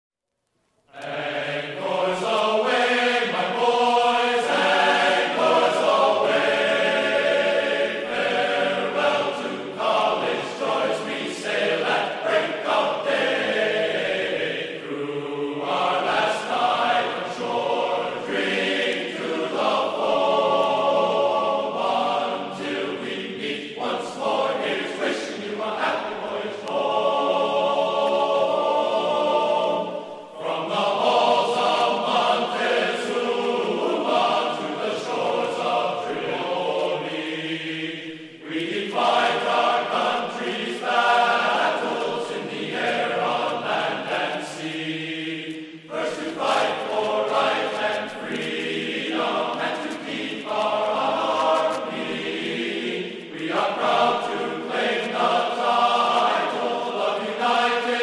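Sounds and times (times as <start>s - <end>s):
choir chanting sustained notes: 0.9s - 58.0s.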